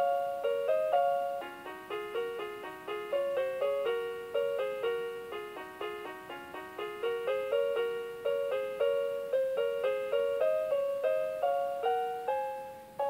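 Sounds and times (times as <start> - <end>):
electronic chiming lullaby melody: 0.0 - 13.0.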